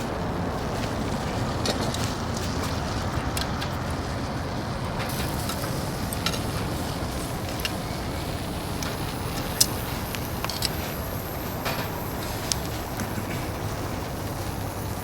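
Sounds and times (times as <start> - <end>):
fire crackling and popping: 0.0 - 15.0
low rushing of flames: 0.0 - 15.0.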